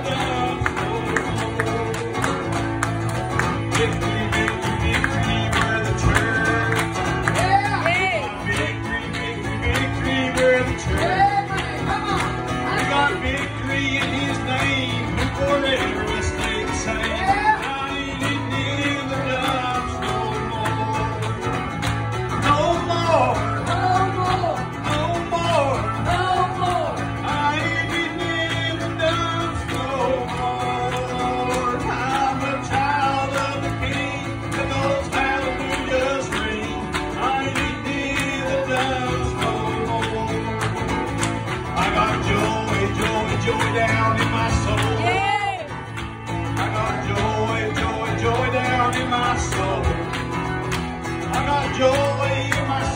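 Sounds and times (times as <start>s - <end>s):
man singing into a microphone: 0.0s - 2.7s, 3.4s - 21.6s, 22.4s - 41.0s, 41.6s - 45.7s, 46.4s - 50.1s, 51.2s - 52.9s
acoustic guitar strumming: 0.0s - 52.9s.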